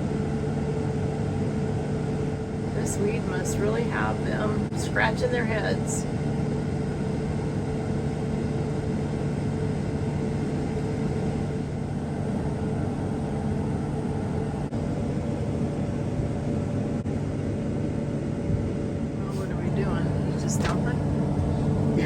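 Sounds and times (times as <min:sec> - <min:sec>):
combine harvester drone: 0:00.0 - 0:22.0.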